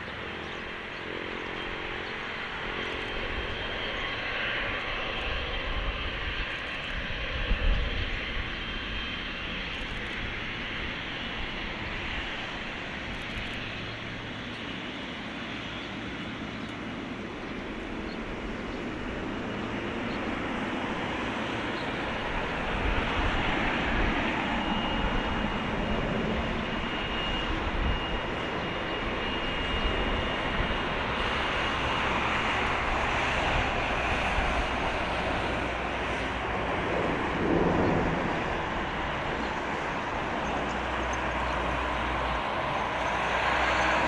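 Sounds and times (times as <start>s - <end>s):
jet engines at taxi power: 0.0s - 44.0s.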